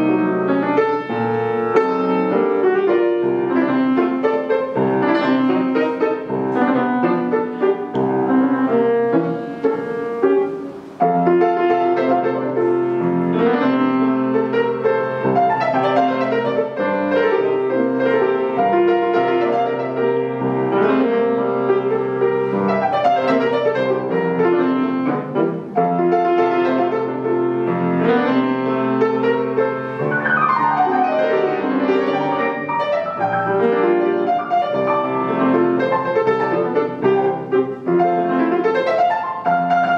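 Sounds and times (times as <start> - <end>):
fast classical grand piano: 0.0 - 39.9.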